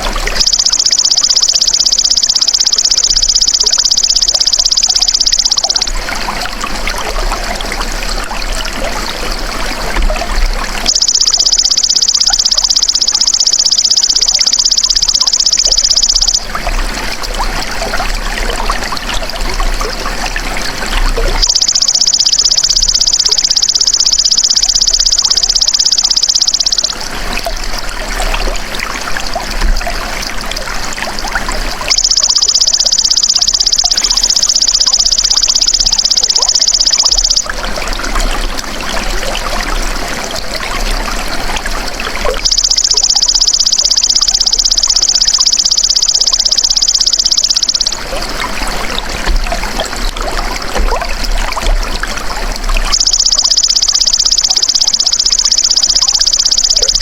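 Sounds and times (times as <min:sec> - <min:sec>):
trickle of flowing water: 0:00.0 - 0:57.0.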